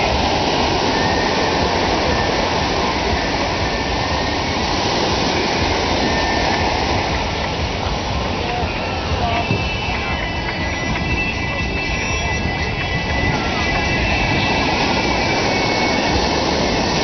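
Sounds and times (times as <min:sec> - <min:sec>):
surf breaking on beach: 0:00.0 - 0:17.0
wind on microphone: 0:00.0 - 0:17.0.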